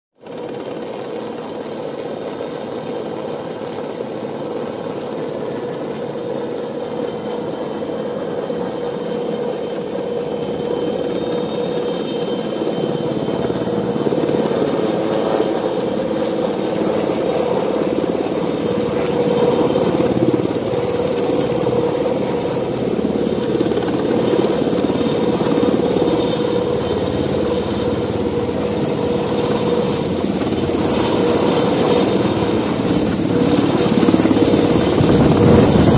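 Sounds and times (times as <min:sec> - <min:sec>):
helicopter rotor noise: 0:00.2 - 0:35.9
helicopter turbine whine: 0:00.2 - 0:35.9.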